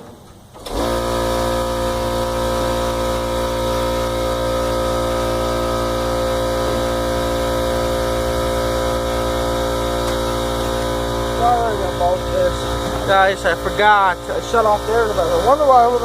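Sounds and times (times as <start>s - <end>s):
air compressor motor humming: 0.4s - 16.0s.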